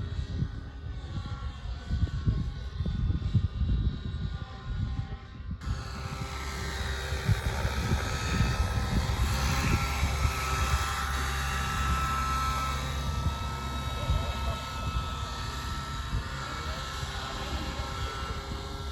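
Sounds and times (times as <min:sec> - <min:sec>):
helicopter rotor fluttering rumble: 0:00.0 - 0:18.9
model helicopter motor whine: 0:00.0 - 0:18.9.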